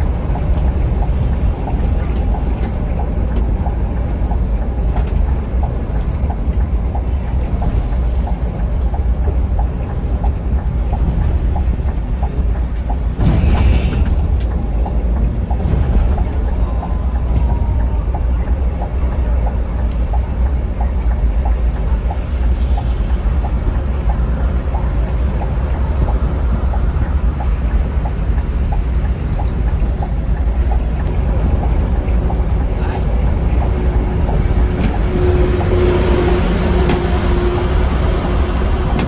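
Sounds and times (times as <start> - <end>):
coach engine and road rumble: 0.0 - 39.0.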